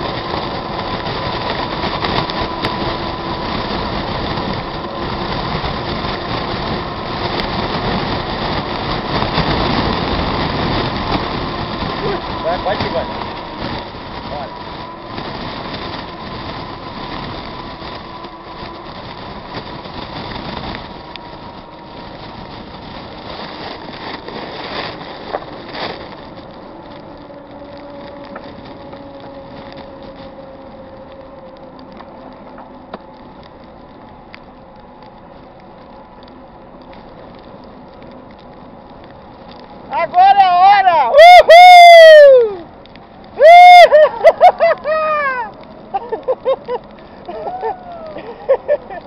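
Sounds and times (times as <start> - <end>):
steady rumbling noise: 0.0 - 49.0.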